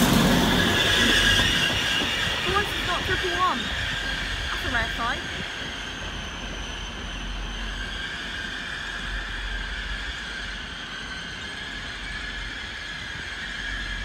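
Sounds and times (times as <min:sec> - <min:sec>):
train running with high whine: 0:00.0 - 0:14.0.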